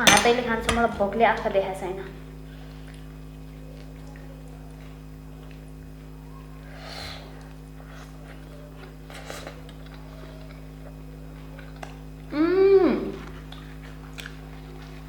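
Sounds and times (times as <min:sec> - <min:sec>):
low electrical hum: 0:00.0 - 0:15.0
eating with hands: 0:02.2 - 0:15.0.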